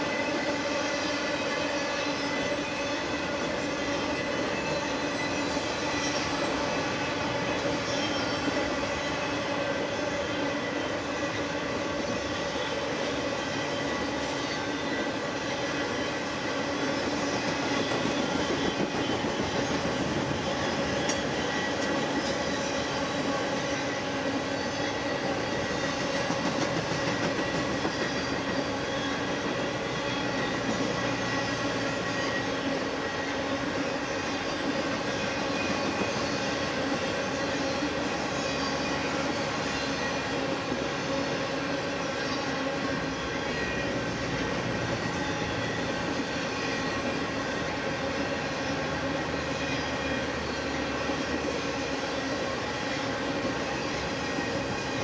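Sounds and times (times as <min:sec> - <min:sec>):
freight train cars rolling past: 0:00.0 - 0:55.0.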